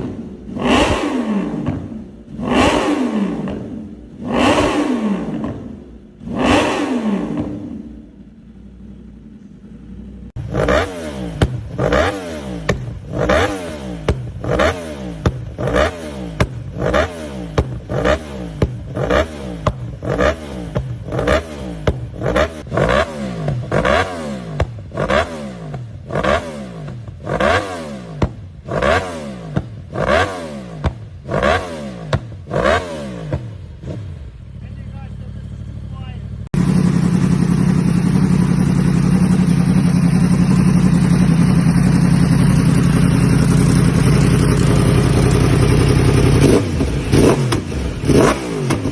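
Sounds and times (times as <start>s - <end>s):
motorcycle engine idling: 0.0s - 48.9s
motorcycle engine revving: 0.0s - 48.9s.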